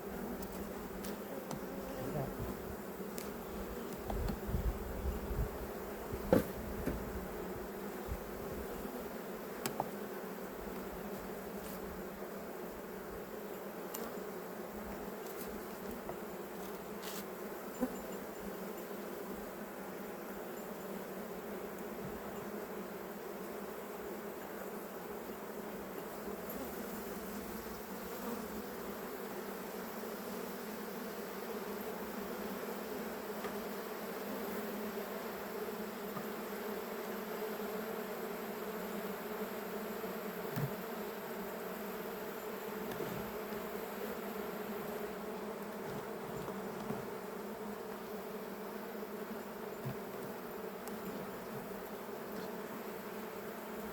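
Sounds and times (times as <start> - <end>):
bees buzzing: 0.0 - 53.9.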